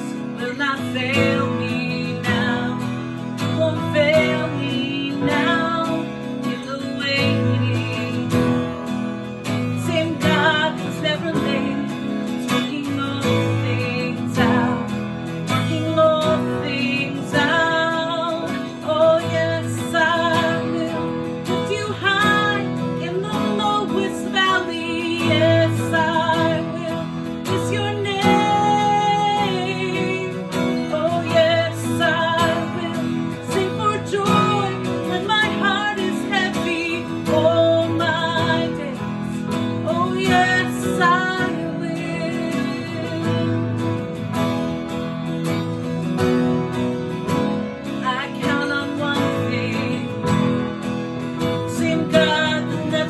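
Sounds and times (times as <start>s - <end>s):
person singing: 0.0s - 53.0s
strummed acoustic guitar: 0.0s - 53.0s.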